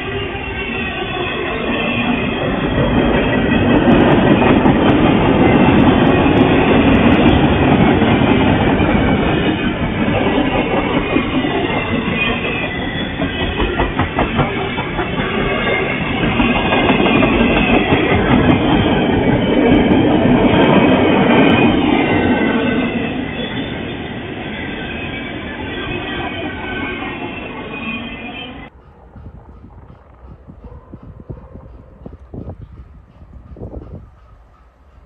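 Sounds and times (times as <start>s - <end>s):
freight train rumbling past: 0.0s - 35.0s
wheels clacking over rail joints: 0.1s - 35.0s.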